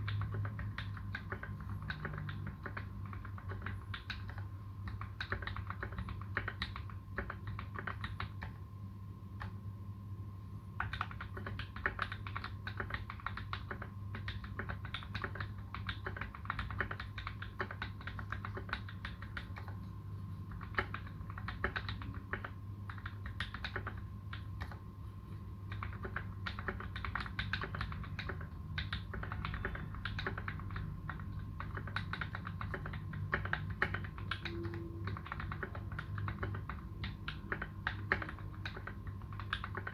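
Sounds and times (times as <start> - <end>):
mechanical keyboard typing: 0.0 - 8.6, 10.8 - 24.9, 25.6 - 39.9
faint steady hum: 0.0 - 39.9.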